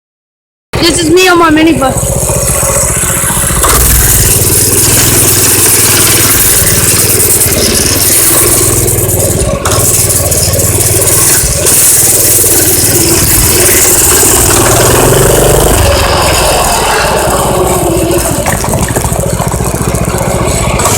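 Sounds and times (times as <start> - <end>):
small engine running loudly: 0.8 - 20.9.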